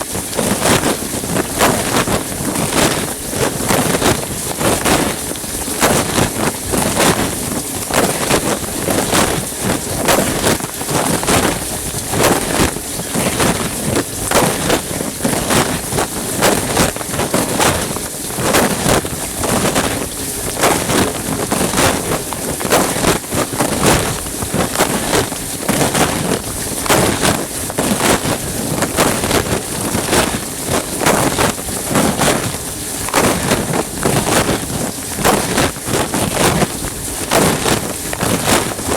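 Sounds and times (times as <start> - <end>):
water jets spraying on plastic: 0.0 - 38.9.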